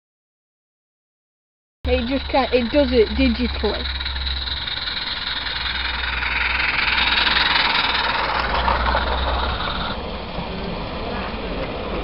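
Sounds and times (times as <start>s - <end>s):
steady low hum: 1.9s - 12.0s
steam hissing: 1.9s - 12.0s.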